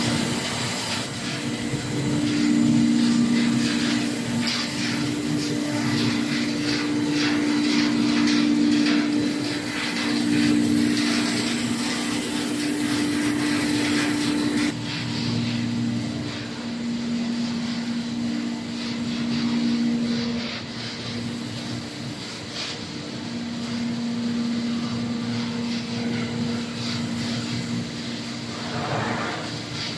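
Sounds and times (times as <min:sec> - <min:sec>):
baler mechanical hum: 0:00.0 - 0:29.9.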